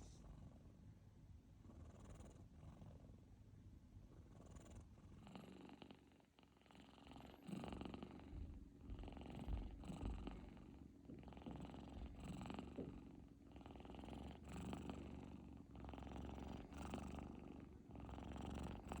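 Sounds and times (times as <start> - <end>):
kittens snoring: 1.6 - 3.3, 4.2 - 19.0.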